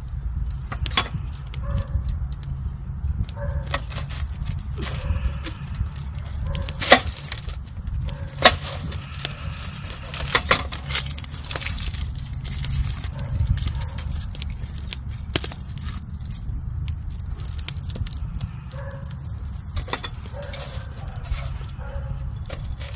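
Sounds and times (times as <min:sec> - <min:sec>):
campfire crackling and popping: 0:00.0 - 0:22.9
low rumble: 0:00.0 - 0:22.9
onion being peeled: 0:00.0 - 0:22.9
knife cutting foil: 0:00.5 - 0:02.6, 0:03.2 - 0:22.9.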